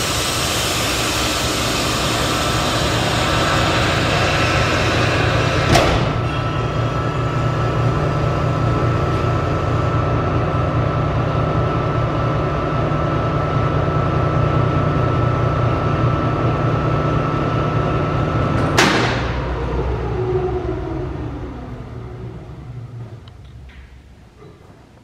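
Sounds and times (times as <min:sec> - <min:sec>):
mixer humming with whine: 0:00.0 - 0:24.7.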